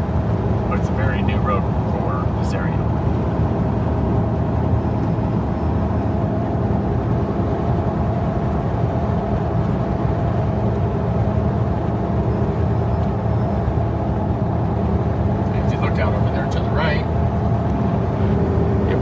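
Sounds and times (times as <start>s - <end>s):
car driving on highway: 0.0s - 19.0s.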